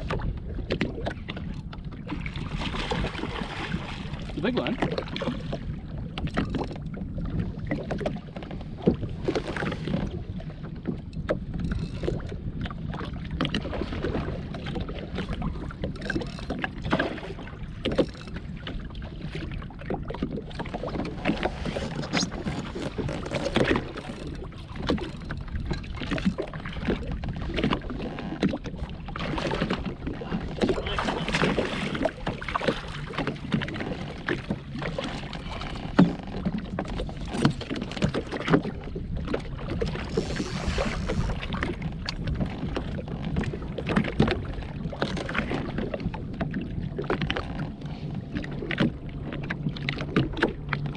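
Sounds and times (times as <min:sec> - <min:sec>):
wind buffeting microphone: 0:00.0 - 0:49.0
water splashing against hull: 0:00.0 - 0:50.9.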